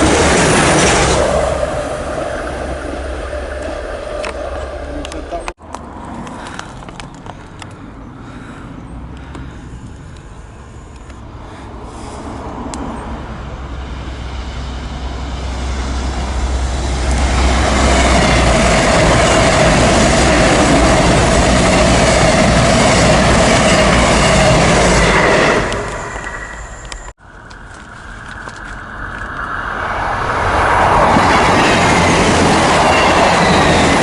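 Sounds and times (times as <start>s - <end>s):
train wheel noise: 0.0s - 7.8s, 9.0s - 34.0s
diesel train passing: 0.0s - 34.0s.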